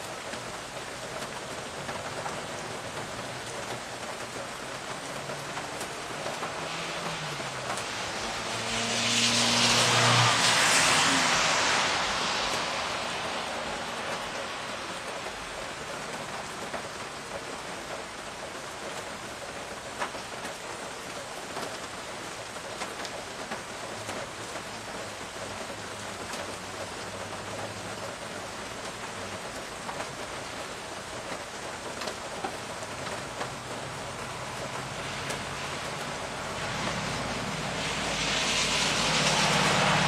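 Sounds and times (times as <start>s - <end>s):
raindrops ticking close by: 0.0s - 40.0s
steady rain falling: 0.0s - 40.0s.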